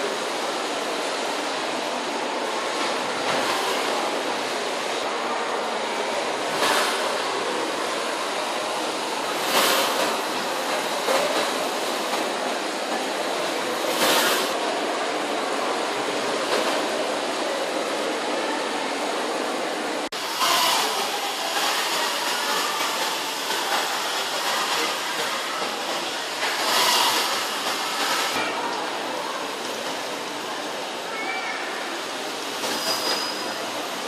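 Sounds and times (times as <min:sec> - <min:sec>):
steam engine hissing: 0:00.0 - 0:17.9, 0:20.2 - 0:31.2
steam gushing: 0:00.0 - 0:34.0.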